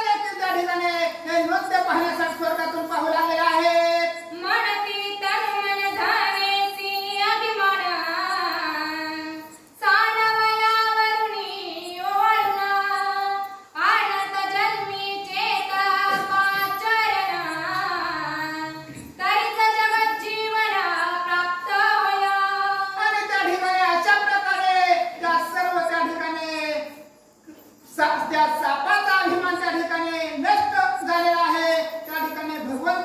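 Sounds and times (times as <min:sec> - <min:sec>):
woman singing devotional verses: 0:00.0 - 0:26.8.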